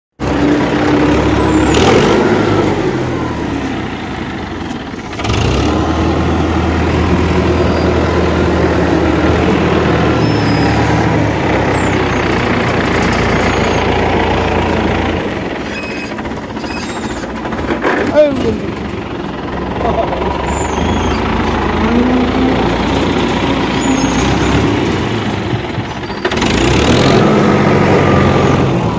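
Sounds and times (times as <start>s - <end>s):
forklift engine running: 0.2s - 28.9s.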